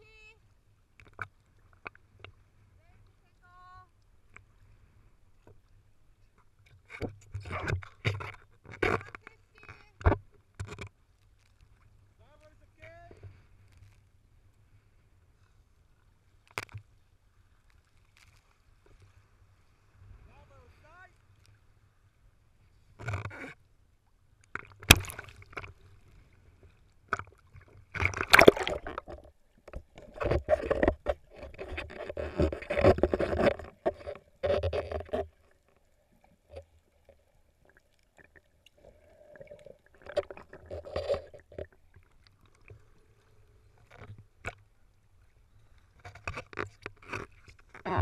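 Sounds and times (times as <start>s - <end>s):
water splashing around camera: 0.1s - 48.0s.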